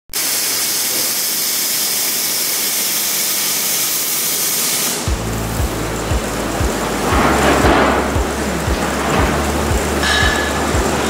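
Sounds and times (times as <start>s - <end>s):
grinder grinding metal: 0.2s - 11.0s.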